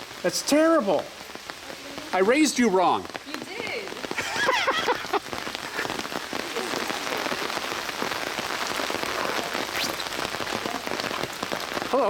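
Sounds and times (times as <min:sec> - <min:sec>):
steady rain pattering: 0:00.0 - 0:12.0.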